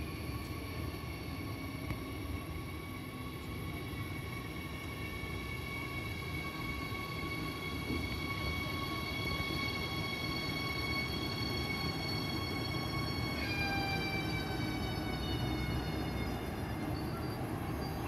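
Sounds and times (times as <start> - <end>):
electric train rumbling and whining: 0.0 - 18.0.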